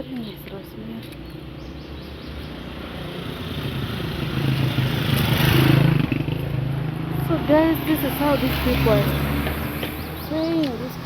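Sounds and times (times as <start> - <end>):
vehicle passing by: 1.8 - 11.0.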